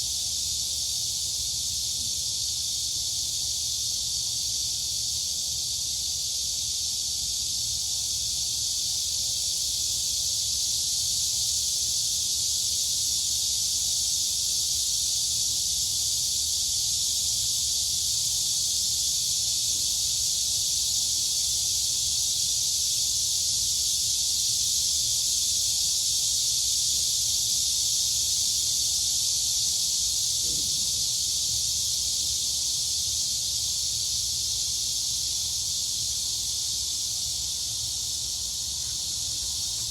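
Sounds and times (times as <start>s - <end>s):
crickets and cicadas chorus: 0.0s - 39.9s.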